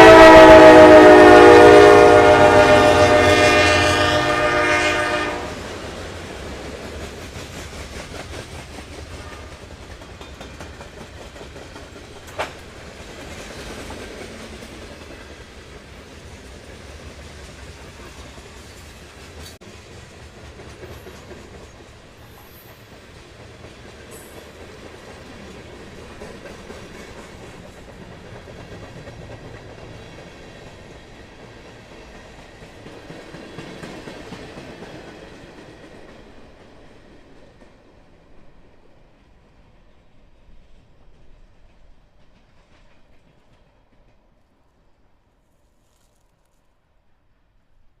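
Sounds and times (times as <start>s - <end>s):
freight train rolling past: 0.0s - 45.5s.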